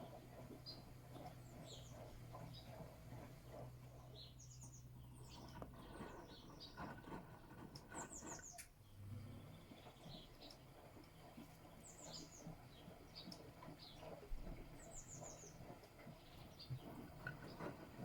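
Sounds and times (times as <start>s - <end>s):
washing machine motor hum: 0.0s - 18.0s.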